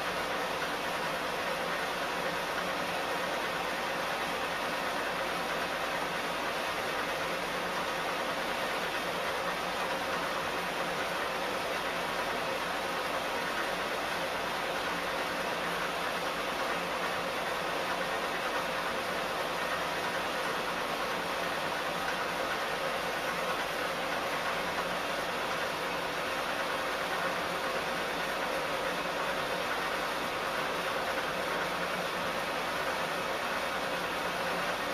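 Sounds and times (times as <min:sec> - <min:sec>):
steady rushing hiss: 0:00.0 - 0:34.9.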